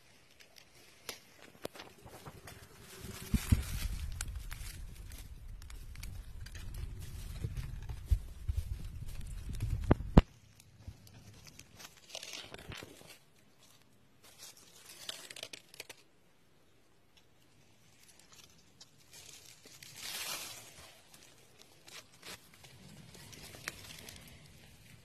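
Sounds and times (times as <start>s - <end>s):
dry leaves rustling: 0.1s - 10.3s, 11.0s - 16.0s, 17.9s - 25.0s.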